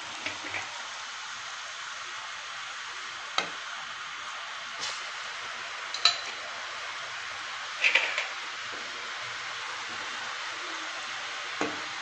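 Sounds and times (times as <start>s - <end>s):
deep-frying sizzle: 0.0s - 12.0s.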